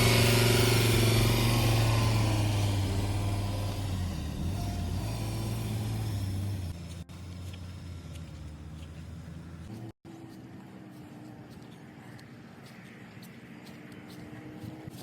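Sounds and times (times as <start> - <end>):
engine humming: 0.0 - 15.0
outdoor background: 0.0 - 15.0.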